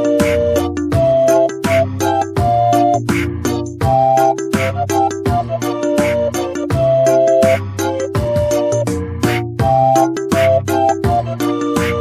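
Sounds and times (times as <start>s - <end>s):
held synth notes: 0.0s - 12.0s.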